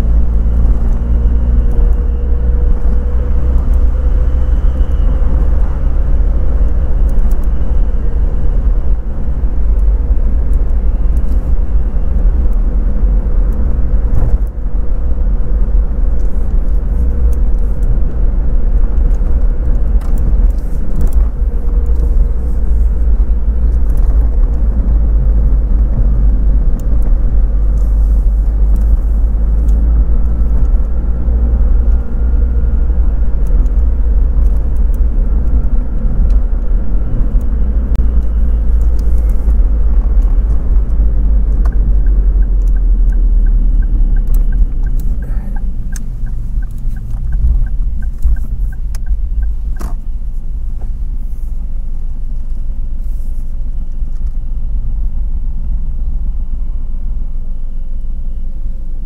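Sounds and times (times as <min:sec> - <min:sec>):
car engine low rumble: 0:00.0 - 0:59.0.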